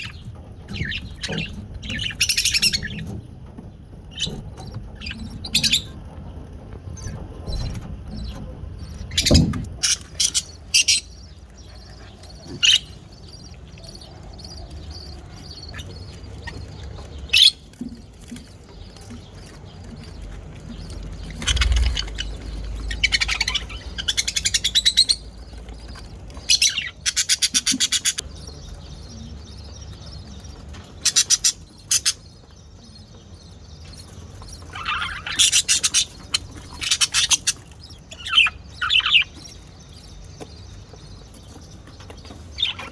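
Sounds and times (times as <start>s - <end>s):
budgerigar chirping and chattering: 0.0s - 6.2s, 7.0s - 42.9s.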